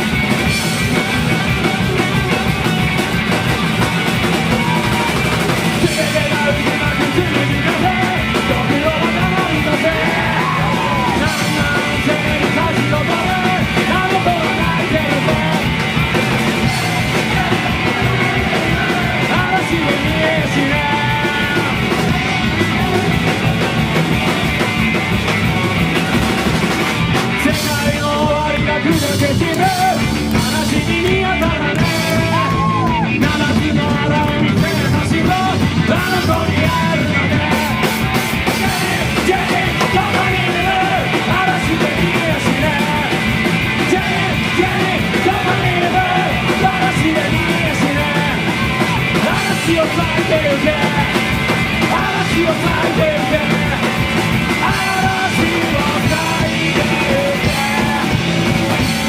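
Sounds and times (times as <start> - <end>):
punk rock band playing: 0.0 - 59.0
yelled vocals: 0.0 - 59.0.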